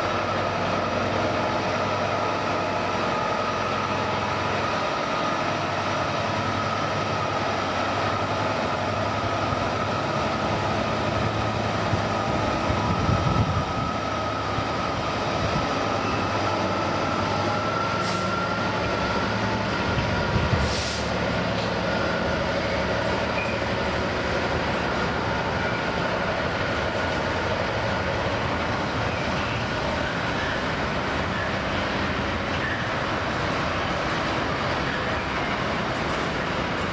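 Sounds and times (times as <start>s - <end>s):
train running: 0.0s - 36.9s.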